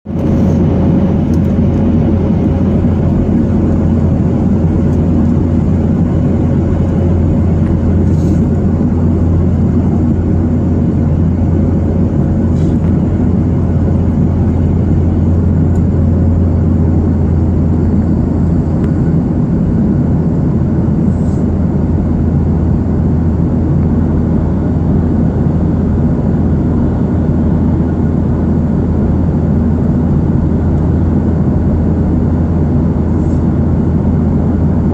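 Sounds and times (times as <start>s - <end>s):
aircraft engine drone: 0.1s - 34.9s.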